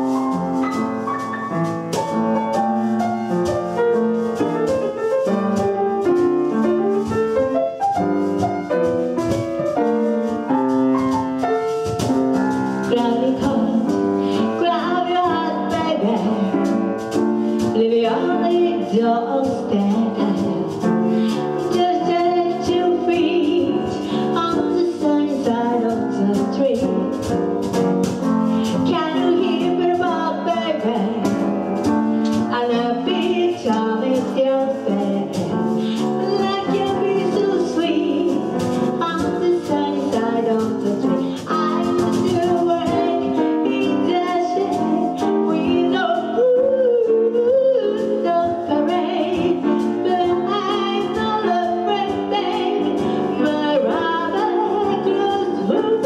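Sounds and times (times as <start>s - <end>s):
cajon strokes: 0.0s - 56.0s
piano playing swing jazz: 0.0s - 56.0s.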